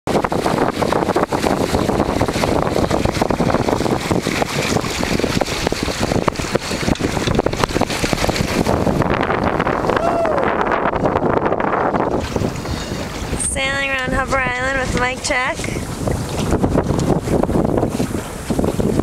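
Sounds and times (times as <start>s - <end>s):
water rushing along hull: 0.1s - 19.0s
wind buffeting microphone: 0.1s - 19.0s.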